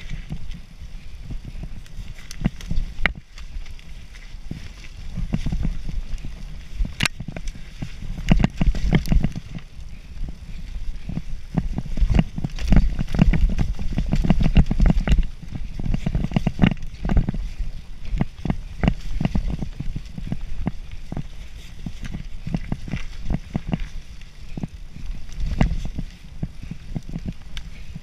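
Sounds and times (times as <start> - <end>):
bike clattering over bumps: 0.0 - 28.0
bike tyres rumbling on dirt: 0.0 - 28.0.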